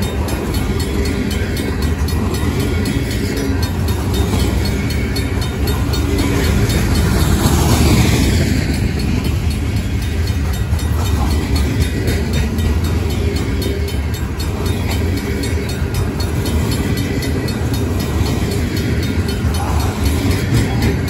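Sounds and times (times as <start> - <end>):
crossing bell ringing: 0.0 - 21.0
train wheels rumbling on rail: 0.0 - 21.0.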